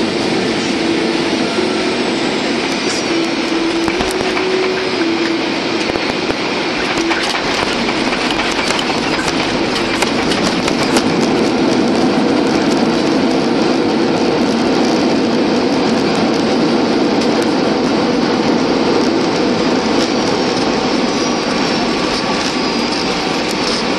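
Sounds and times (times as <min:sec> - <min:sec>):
jet engines roaring: 0:00.0 - 0:23.9
wheels rolling on runway: 0:02.7 - 0:23.9.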